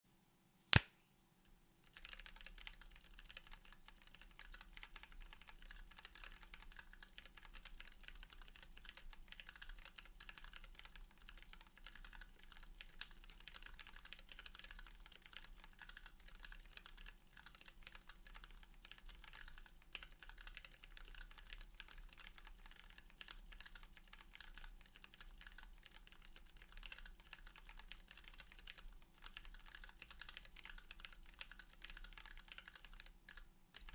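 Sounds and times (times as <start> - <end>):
mechanical keyboard typing: 1.9 - 33.9.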